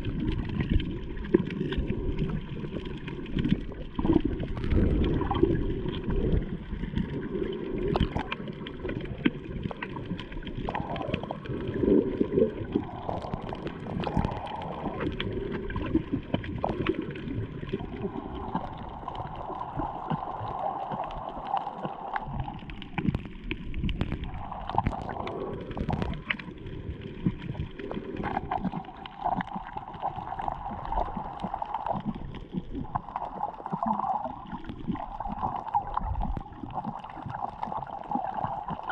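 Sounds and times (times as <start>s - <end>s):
underwater sloshing and gurgling: 0.0s - 38.9s.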